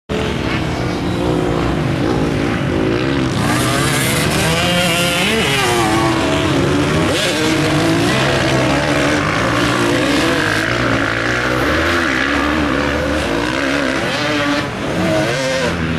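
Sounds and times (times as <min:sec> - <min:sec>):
motocross bike engine revving: 0:00.1 - 0:15.9.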